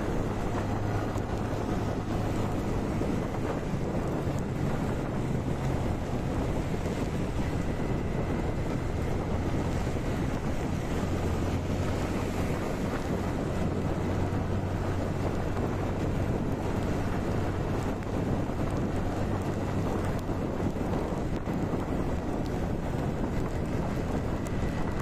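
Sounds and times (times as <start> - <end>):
motorcycle engine drone: 0.0 - 25.0
wind rush on microphone: 0.0 - 25.0.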